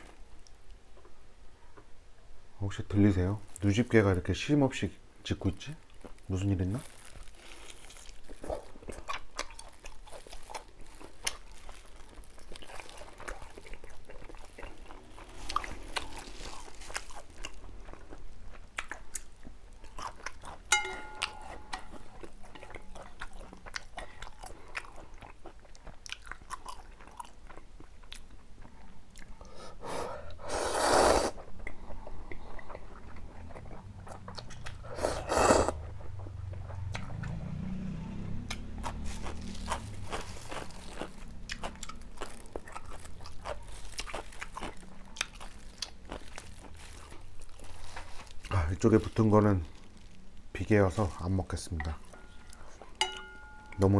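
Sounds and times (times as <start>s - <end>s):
close chewing and biting: 5.4s - 29.6s, 31.2s - 53.9s.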